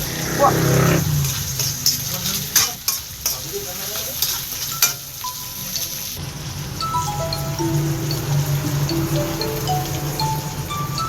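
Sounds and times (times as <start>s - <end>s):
food sizzling in a pan: 1.0s - 11.0s.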